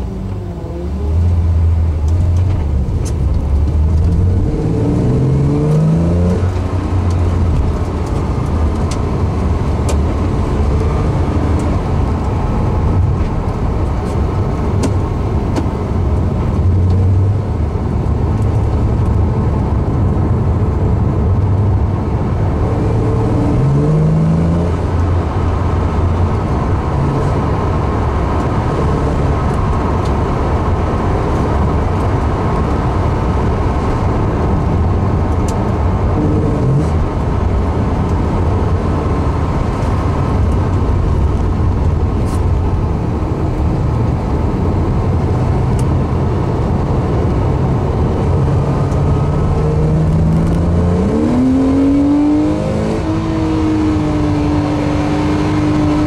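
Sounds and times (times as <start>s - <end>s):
car engine revving: 0.0s - 56.0s
road noise inside car cabin: 0.0s - 56.0s.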